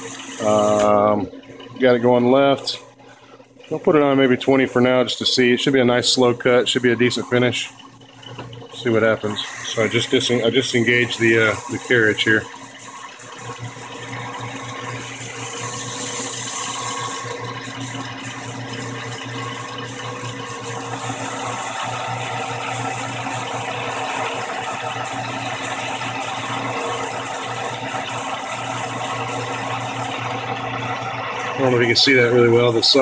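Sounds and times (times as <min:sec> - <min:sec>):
metal lathe humming: 0:00.0 - 0:33.0.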